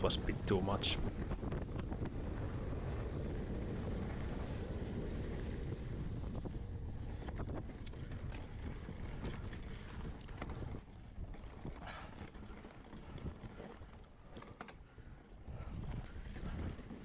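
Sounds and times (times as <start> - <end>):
trail and tyre noise: 0.0 - 17.0
wind buffeting microphone: 0.0 - 17.0.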